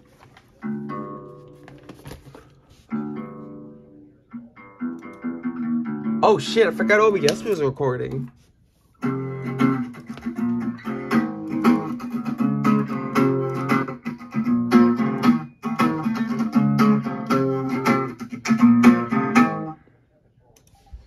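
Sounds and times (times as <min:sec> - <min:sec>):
guitar plucked and strummed: 0:00.6 - 0:01.8, 0:02.9 - 0:08.2, 0:09.0 - 0:19.8.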